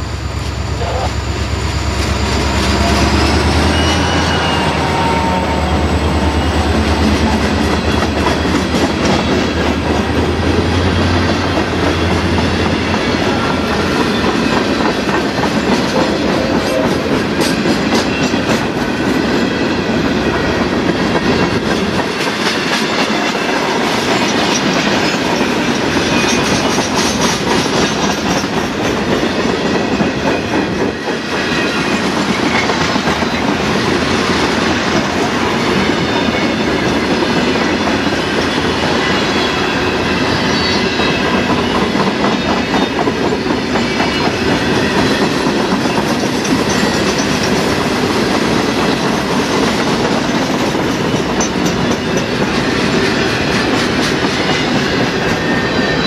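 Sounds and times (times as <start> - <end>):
train wheels clattering over rail joints: 6.2 - 56.0.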